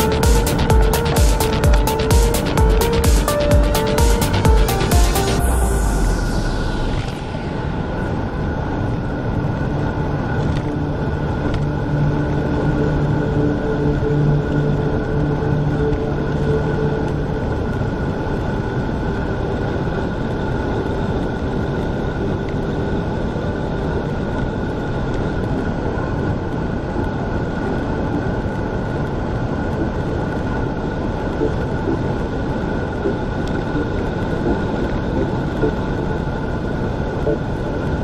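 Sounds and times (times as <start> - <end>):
faint high whine: 0.0 - 38.0
wind rushing over microphone: 5.6 - 38.0.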